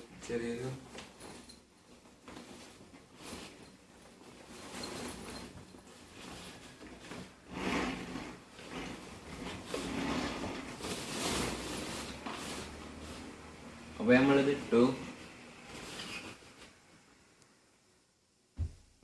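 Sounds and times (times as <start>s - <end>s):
fabric cover rustling and scraping: 0.2s - 16.9s.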